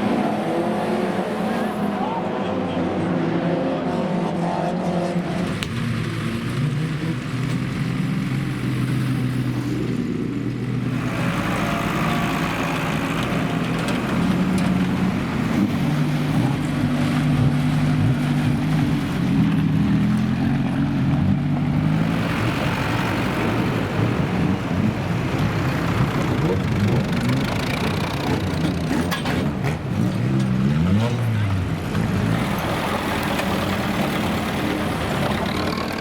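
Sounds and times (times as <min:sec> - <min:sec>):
racing car engines running hard: 0:00.0 - 0:36.0.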